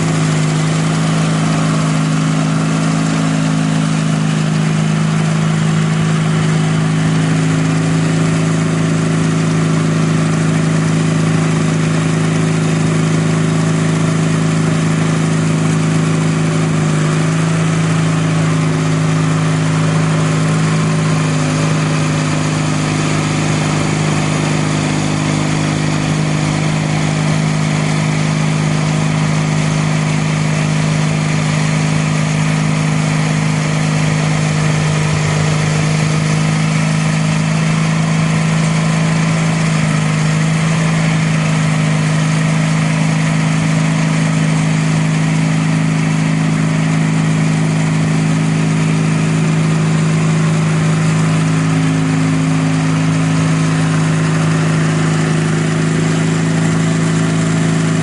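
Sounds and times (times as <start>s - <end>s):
snowblower throwing snow: 0.0s - 58.0s
tractor engine running under load: 0.0s - 58.0s.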